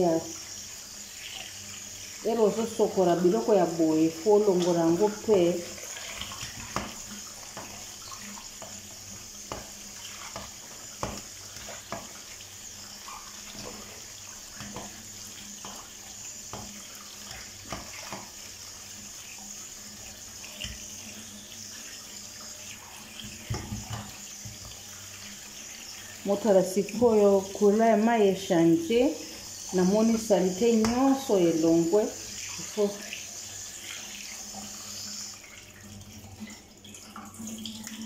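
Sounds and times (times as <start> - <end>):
tap water running into colander: 0.0 - 38.0.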